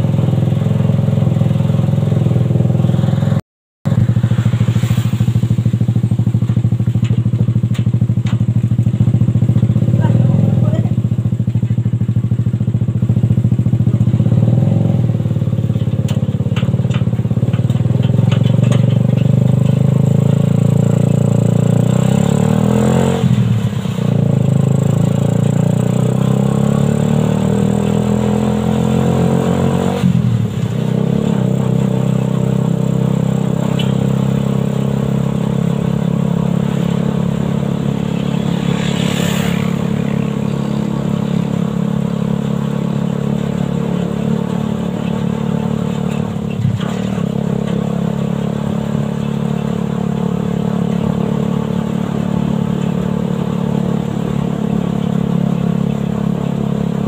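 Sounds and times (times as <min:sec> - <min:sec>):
engine running under load: 0:00.0 - 0:57.0.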